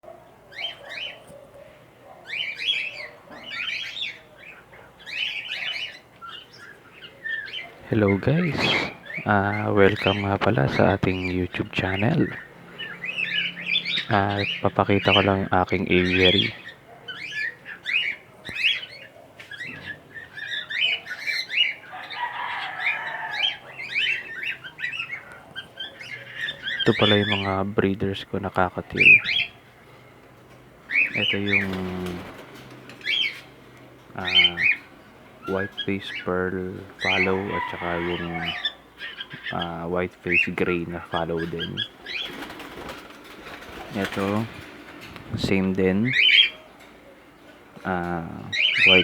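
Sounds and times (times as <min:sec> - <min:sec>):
parrots chirping and chattering: 0:00.0 - 0:49.0.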